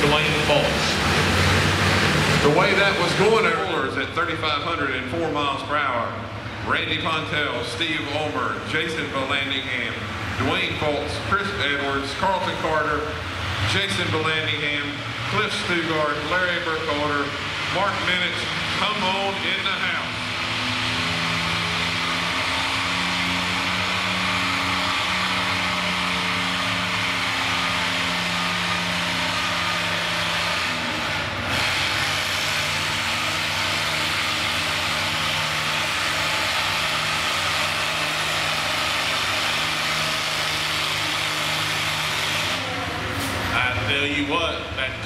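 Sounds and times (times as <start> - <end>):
tractor engine running under load: 0.0 - 45.0.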